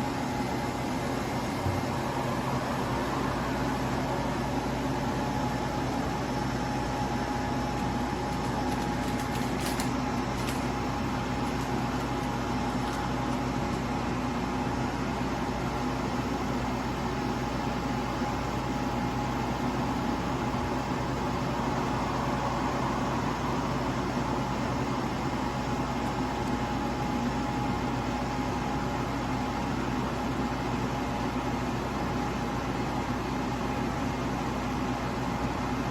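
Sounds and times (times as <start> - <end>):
steady whining tone: 0.0 - 29.5
air conditioner humming: 0.0 - 35.9.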